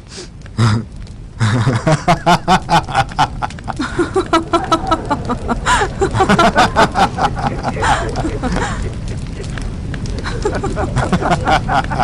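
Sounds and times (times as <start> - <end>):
man laughing heartily: 1.4 - 12.0.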